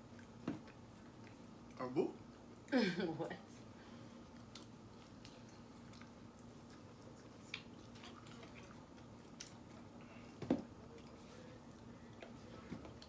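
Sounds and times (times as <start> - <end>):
soft chewing: 0.0 - 2.8, 3.5 - 13.0
faint steady hum: 0.0 - 13.0.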